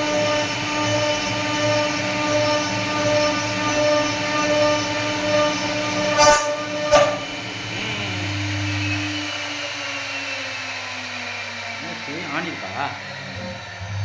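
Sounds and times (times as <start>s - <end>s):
wood router whining: 0.0s - 14.0s.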